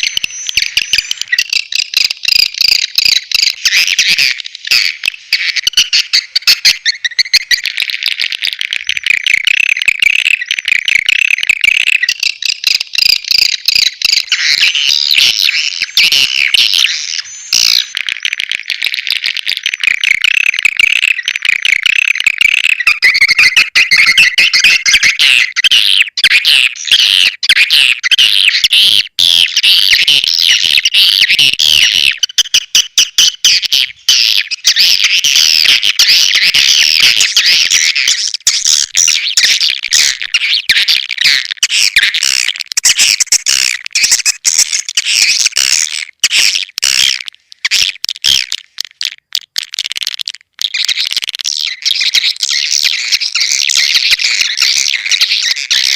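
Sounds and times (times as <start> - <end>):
swiftlet chirps and twitters: 0.0 - 28.7, 29.4 - 55.9.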